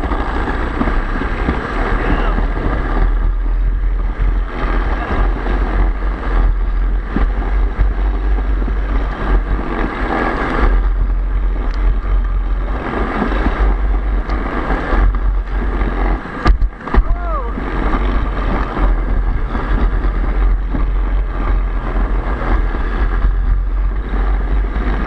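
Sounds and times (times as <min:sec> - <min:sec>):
sled running down track: 0:00.0 - 0:25.0
wind buffeting microphone: 0:00.0 - 0:25.0.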